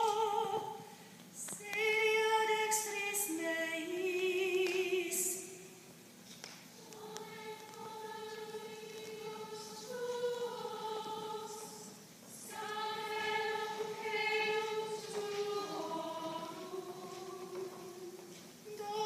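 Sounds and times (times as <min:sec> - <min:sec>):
women's choir singing: 0:00.0 - 0:00.9, 0:01.6 - 0:05.7, 0:06.8 - 0:19.0.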